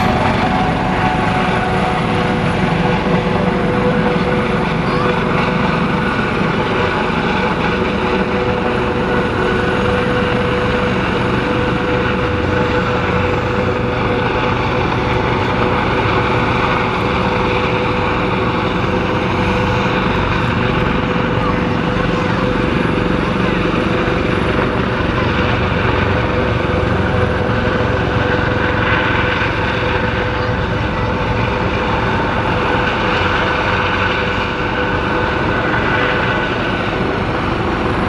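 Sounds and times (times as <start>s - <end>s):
helicopter engine and rotor: 0.0s - 38.0s.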